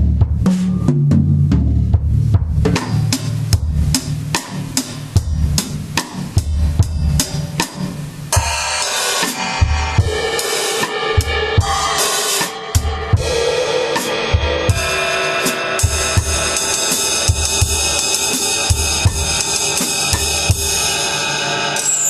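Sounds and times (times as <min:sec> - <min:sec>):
bass drum and tom strokes: 0:00.0 - 0:22.0
crashing cymbals: 0:02.8 - 0:22.0.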